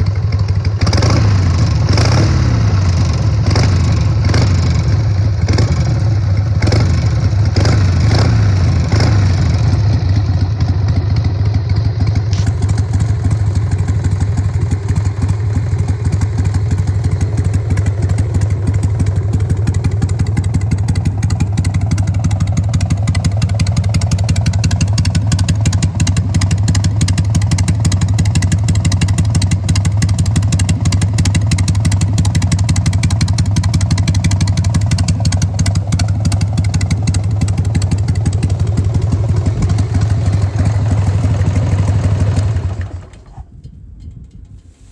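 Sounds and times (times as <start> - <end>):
motorcycle engine idling: 0.0 - 44.8.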